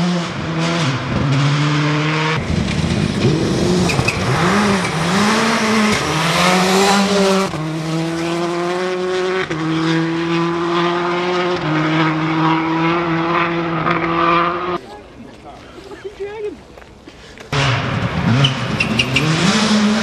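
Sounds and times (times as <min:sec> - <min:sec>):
rally car engine revving: 0:00.0 - 0:14.8, 0:17.5 - 0:20.0.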